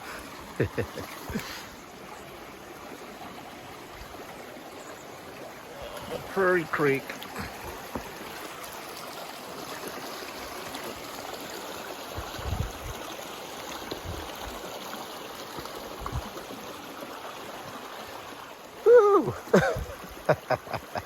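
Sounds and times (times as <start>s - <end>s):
creek water running: 0.0s - 21.0s.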